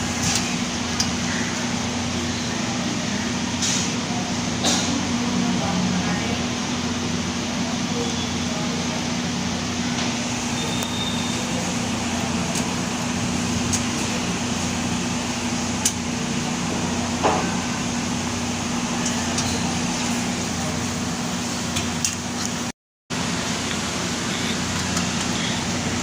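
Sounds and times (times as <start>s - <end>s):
steady hum and hiss: 0.0s - 26.0s.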